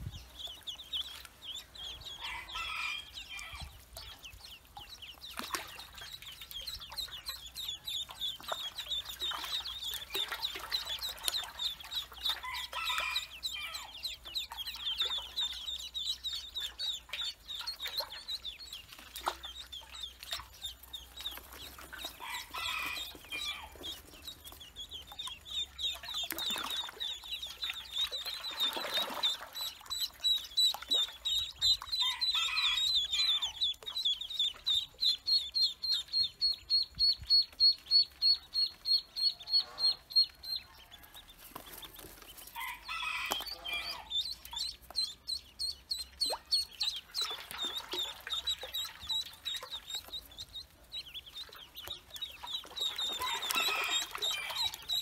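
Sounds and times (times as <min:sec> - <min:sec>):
ducklings peeping: 0:00.0 - 0:55.0.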